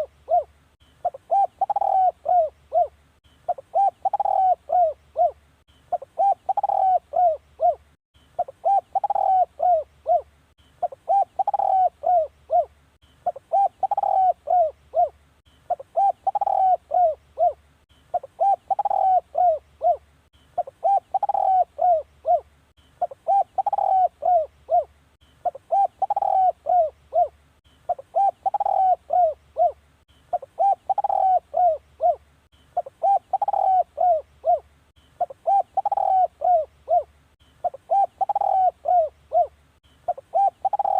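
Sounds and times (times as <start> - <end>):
dove cooing: 0.0 - 7.8, 8.4 - 32.2, 32.8 - 40.9.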